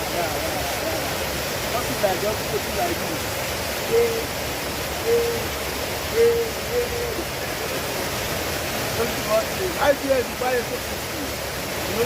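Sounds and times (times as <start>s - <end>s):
water rushing down a waterfall: 0.0s - 12.0s.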